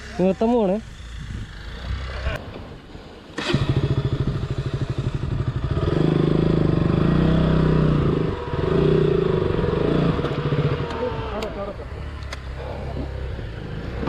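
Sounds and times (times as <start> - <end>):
motorcycle engine revving: 0.0 - 2.5, 3.3 - 14.0.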